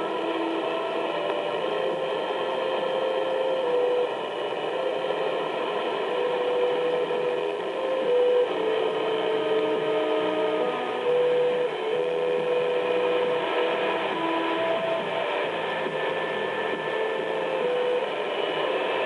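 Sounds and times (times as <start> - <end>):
faint music of held notes: 0.0 - 19.0
radio static hiss: 0.0 - 19.0.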